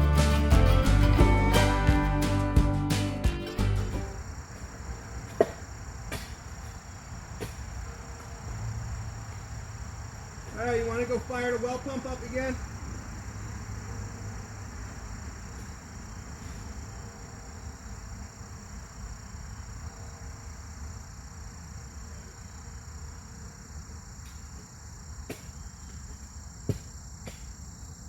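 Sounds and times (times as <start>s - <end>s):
insects chirring: 3.2s - 28.0s.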